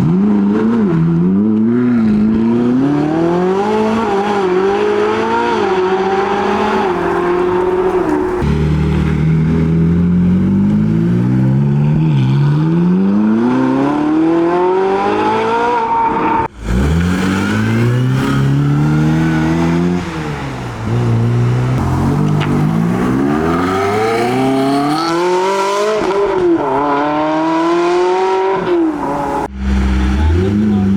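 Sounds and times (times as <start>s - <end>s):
car engines accelerating hard: 0.0s - 30.9s.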